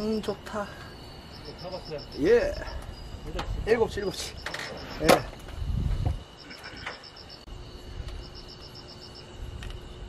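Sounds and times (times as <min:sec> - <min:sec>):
crickets chirping: 0:00.0 - 0:10.0
steady high insect tone: 0:00.0 - 0:10.0.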